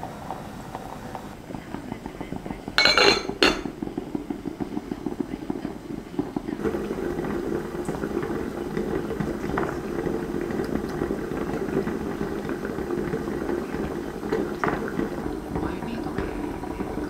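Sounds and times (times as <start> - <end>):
water boiling with bubbling: 0.0 - 17.0.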